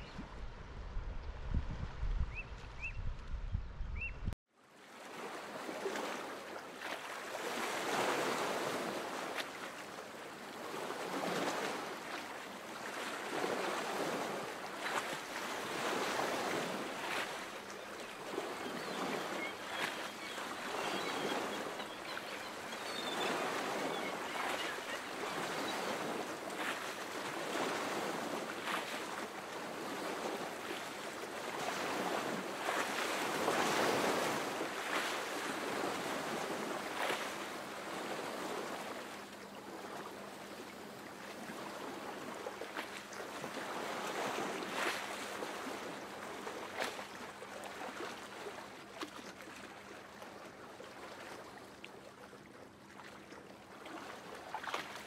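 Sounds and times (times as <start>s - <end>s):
sea waves washing on shore: 4.7s - 55.0s.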